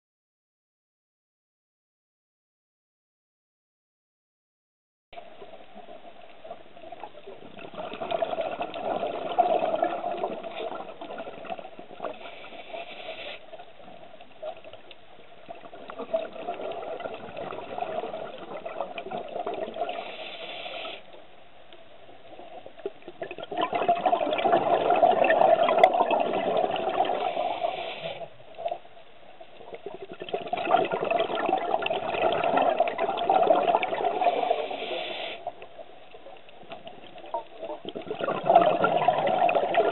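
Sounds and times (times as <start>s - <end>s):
underwater exhaled bubbles: 5.2s - 21.2s, 22.2s - 39.9s.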